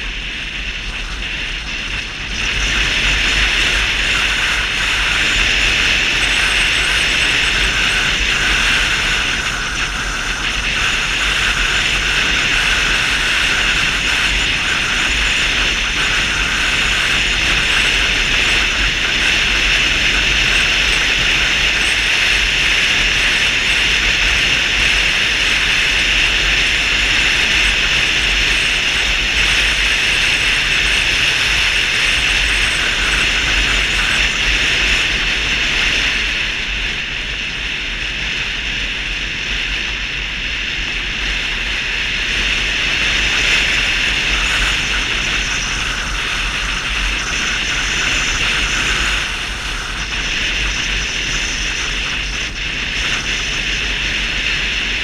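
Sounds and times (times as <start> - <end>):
scooter road noise: 0.0 - 55.0
wind rush on microphone: 0.0 - 55.0.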